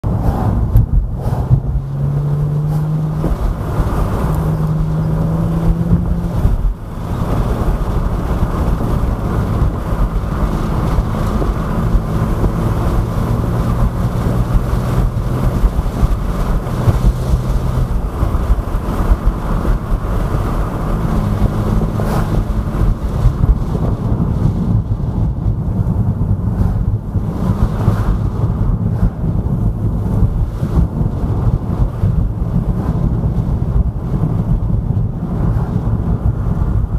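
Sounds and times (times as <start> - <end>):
car engine hum: 0.0 - 36.9
road noise: 0.0 - 36.9
wind noise: 0.0 - 36.9.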